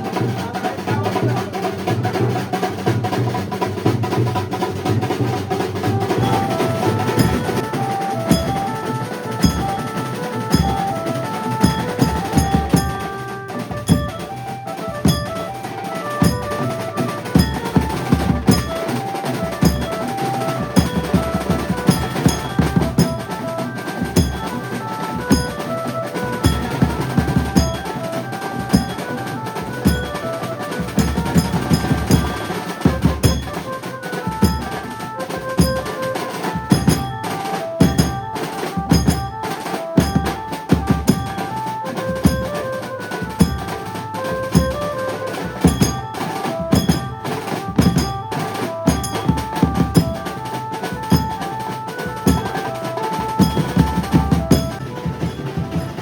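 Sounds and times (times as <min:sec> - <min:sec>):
fast driving drums: 0:00.0 - 0:56.0
melody of short quick notes: 0:05.8 - 0:56.0.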